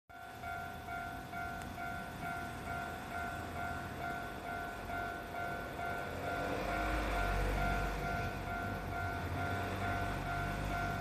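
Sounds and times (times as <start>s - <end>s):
level crossing alarm dinging: 0.1s - 11.0s.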